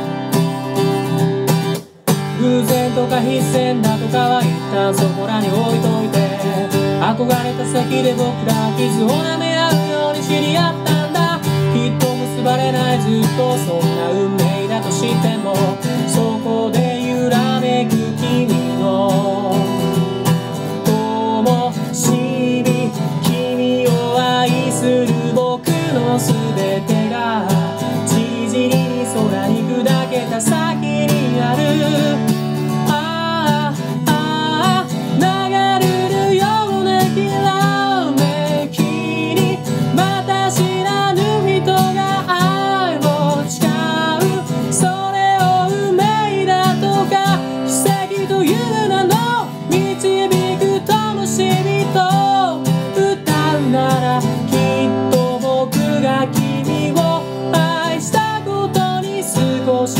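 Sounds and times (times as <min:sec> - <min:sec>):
acoustic guitar strummed: 0:00.0 - 0:59.9
person singing: 0:00.0 - 0:59.9.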